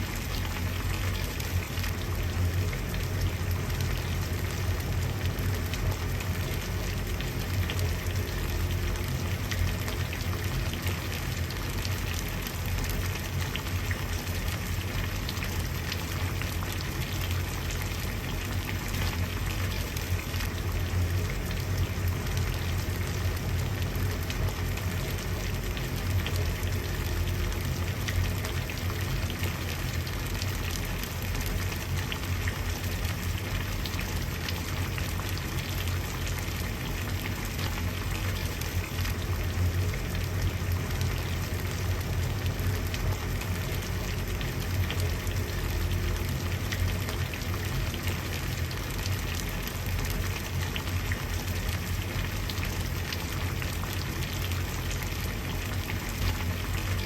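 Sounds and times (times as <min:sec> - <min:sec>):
water boiling and bubbling: 0:00.0 - 0:57.0.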